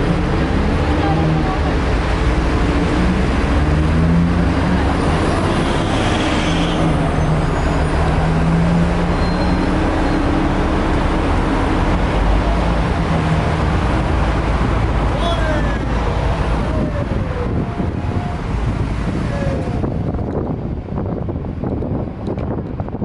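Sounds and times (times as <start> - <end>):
bus engine rumble in traffic: 0.0 - 23.0.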